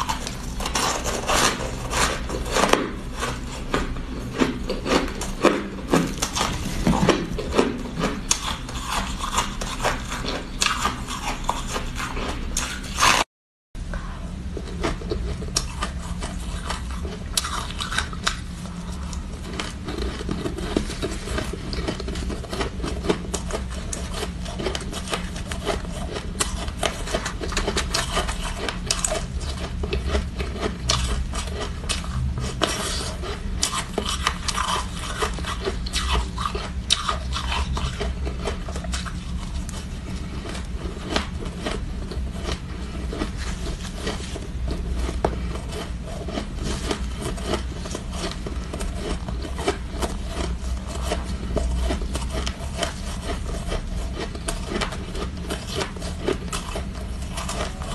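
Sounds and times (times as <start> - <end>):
ice being chewed: 0.0 - 13.2, 14.4 - 57.9.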